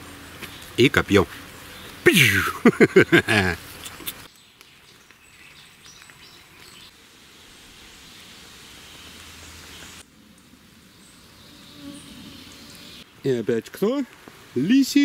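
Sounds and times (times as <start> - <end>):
quiet even hiss: 0.0 - 15.0.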